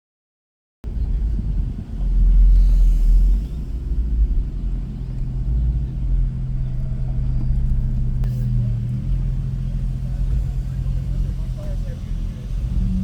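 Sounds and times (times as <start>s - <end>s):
car engine and road rumble: 0.8s - 13.0s.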